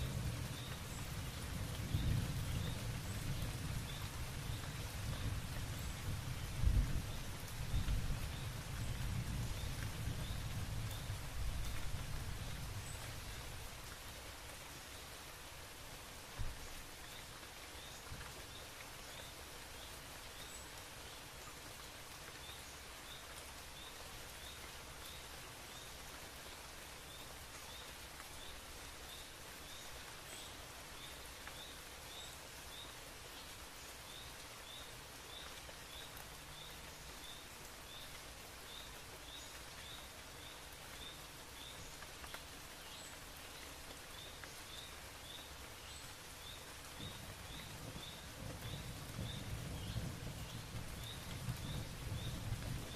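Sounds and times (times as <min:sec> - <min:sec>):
outdoor ambience hiss: 0:00.0 - 0:52.9.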